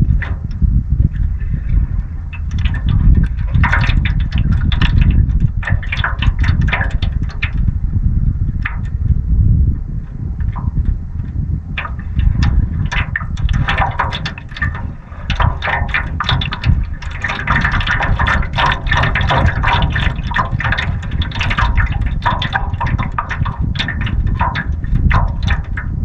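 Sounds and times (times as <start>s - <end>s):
small waves splashing against hull: 0.0s - 9.0s, 10.4s - 26.0s
wind rumble on microphone: 0.0s - 26.0s.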